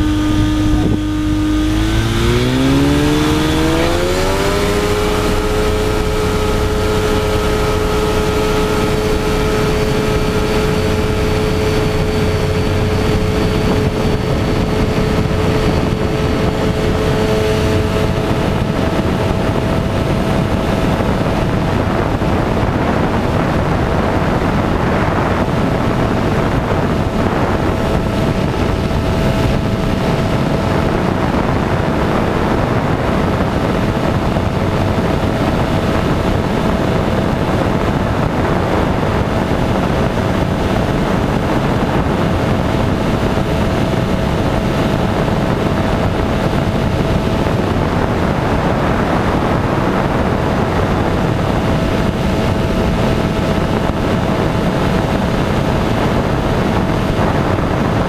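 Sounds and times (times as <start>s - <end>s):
heavy wind rush over camera: 0.0s - 58.0s
propeller aircraft engine running: 0.0s - 58.0s.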